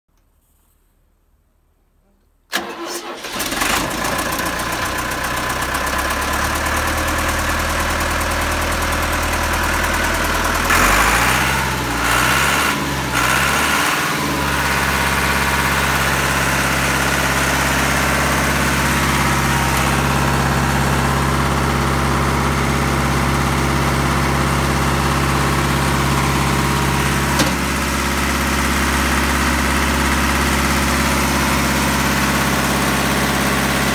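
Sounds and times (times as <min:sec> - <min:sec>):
pump engine starting and idling: 0:02.5 - 0:33.9.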